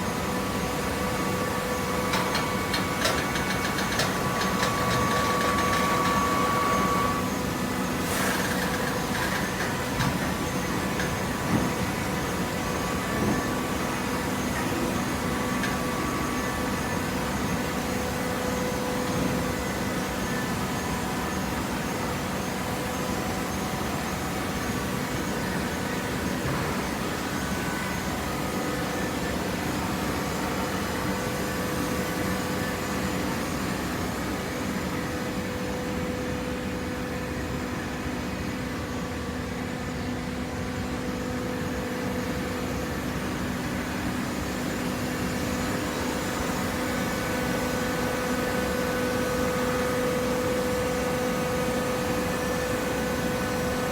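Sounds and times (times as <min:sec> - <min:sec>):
machinery humming: 0:00.0 - 0:53.9.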